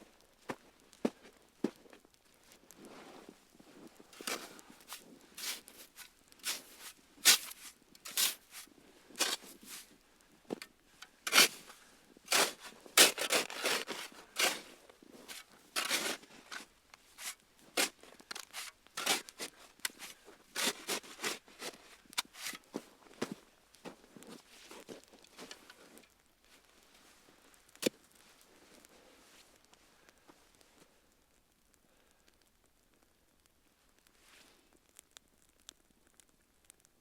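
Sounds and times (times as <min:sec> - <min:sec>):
campfire crackling and popping: 0:00.2 - 0:20.6, 0:21.3 - 0:37.0.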